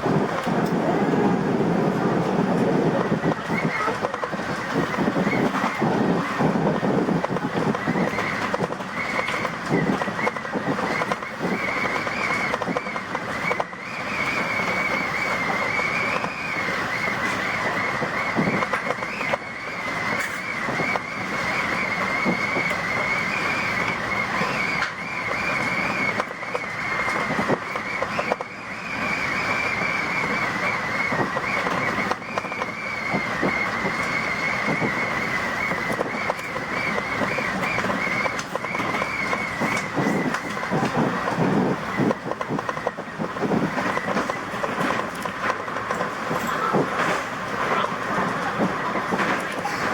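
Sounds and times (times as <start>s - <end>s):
high whine of train motor: 0.0s - 49.9s
wheel and track noise: 0.0s - 49.9s.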